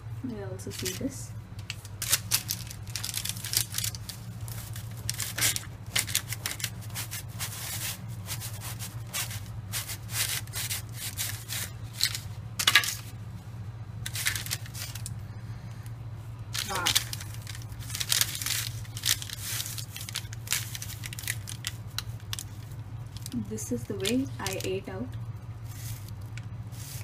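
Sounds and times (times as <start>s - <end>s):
low hum: 0.0s - 27.0s
paper rustling: 0.7s - 13.1s, 14.0s - 15.1s, 16.5s - 24.7s, 25.6s - 27.0s.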